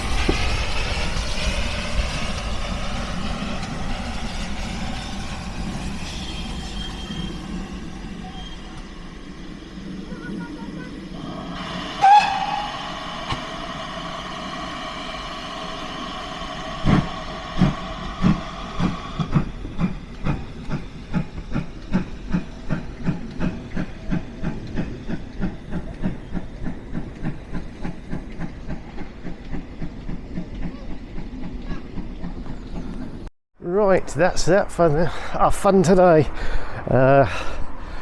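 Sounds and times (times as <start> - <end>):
steam hissing: 0.0 - 30.9
locomotive exhaust chuffs: 0.0 - 38.0.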